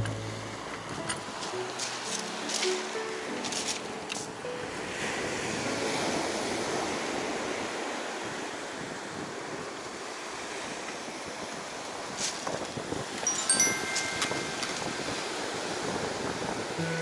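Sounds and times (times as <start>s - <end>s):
surf washing up pebble beach: 1.3s - 16.8s.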